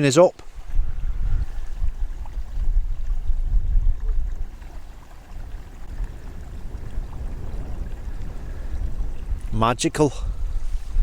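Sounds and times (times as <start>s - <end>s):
wind buffeting microphone: 0.4s - 11.0s.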